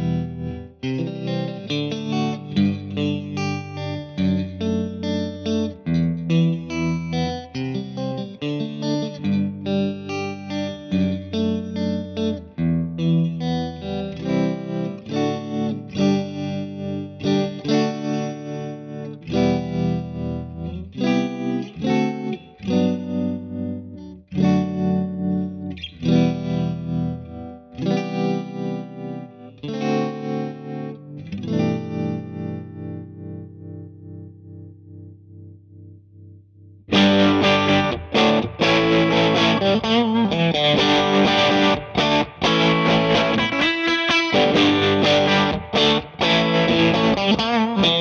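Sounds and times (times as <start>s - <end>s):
electric guitar chords with tremolo: 0.0s - 48.0s.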